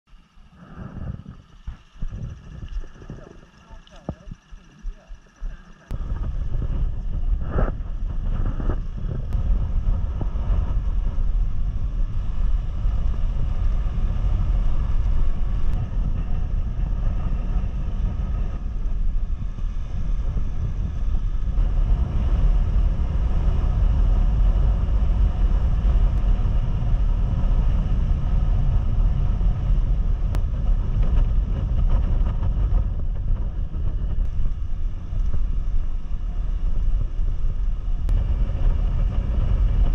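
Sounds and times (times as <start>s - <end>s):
motorcycle engine running: 0.1s - 39.9s
wind buffeting microphone: 0.2s - 39.9s.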